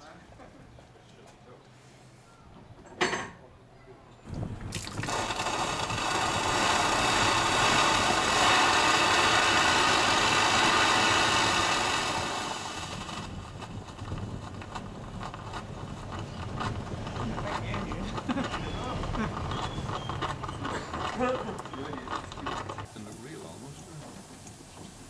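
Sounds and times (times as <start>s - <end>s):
steam hissing hard: 4.9s - 25.0s.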